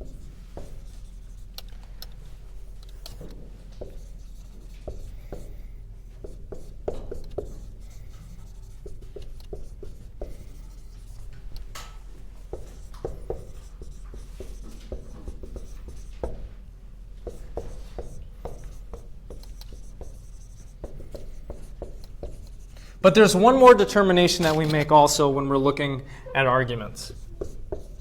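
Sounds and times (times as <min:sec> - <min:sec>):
pen writing strokes and taps: 0:00.0 - 0:16.6, 0:17.2 - 0:25.0, 0:27.1 - 0:28.0
steady low hum: 0:00.0 - 0:28.0.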